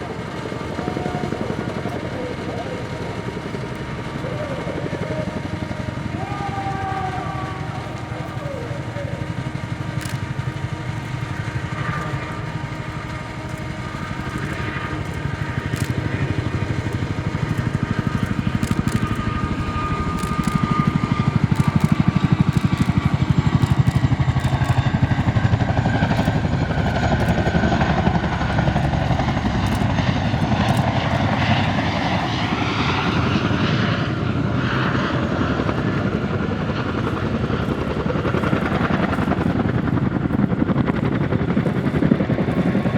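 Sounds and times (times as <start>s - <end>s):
helicopter rotors thudding: 0.0s - 42.9s.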